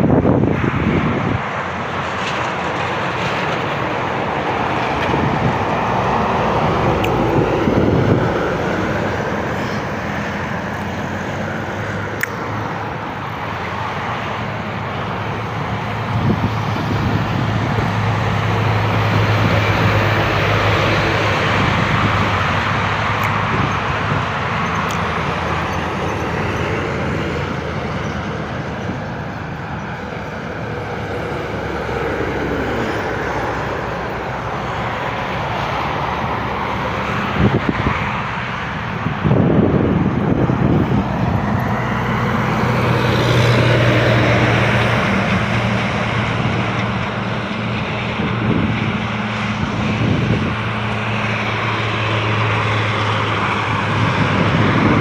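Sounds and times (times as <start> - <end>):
heavy truck engine drone: 0.0 - 55.0
highway traffic noise: 0.0 - 55.0.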